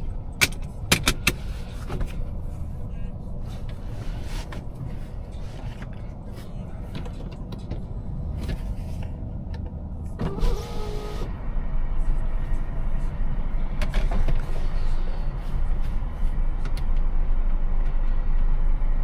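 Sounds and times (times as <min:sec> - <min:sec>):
car engine rumbling: 0:00.0 - 0:19.0
engine whine: 0:00.0 - 0:19.0.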